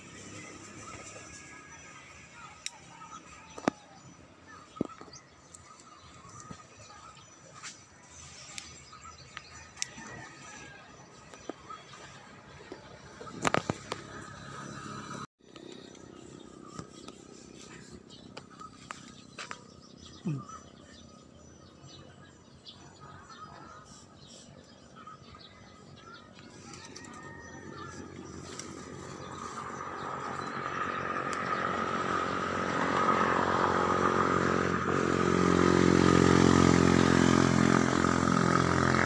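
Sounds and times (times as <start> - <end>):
motorcycle engine approaching: 0.0 - 39.0.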